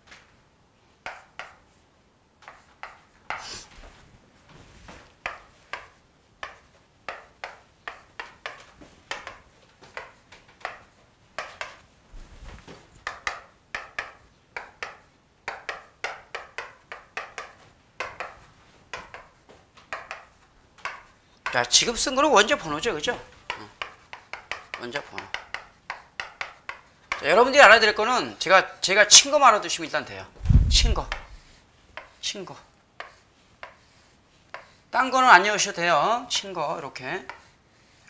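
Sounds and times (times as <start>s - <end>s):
chalk tapping and scratching on blackboard: 1.0s - 1.8s, 2.4s - 28.5s, 30.7s - 38.0s.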